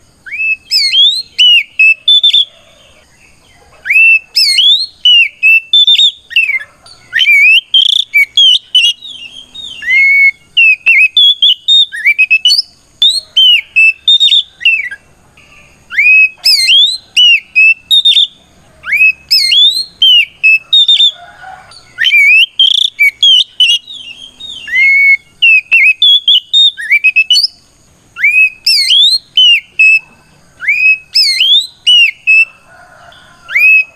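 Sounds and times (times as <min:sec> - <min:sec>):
bird singing whistled notes: 0:00.0 - 0:33.9.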